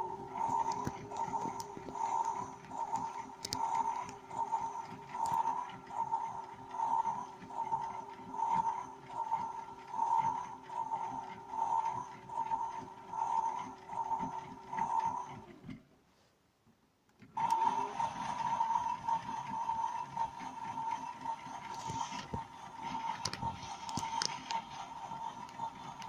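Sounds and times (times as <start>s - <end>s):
toy washing machine whirring: 0.0s - 15.8s, 17.2s - 26.0s.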